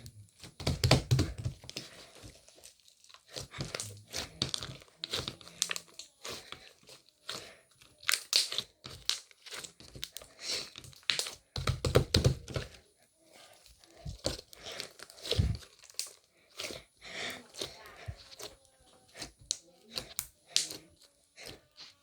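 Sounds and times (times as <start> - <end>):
crinkling and crackling handling: 0.0 - 22.0.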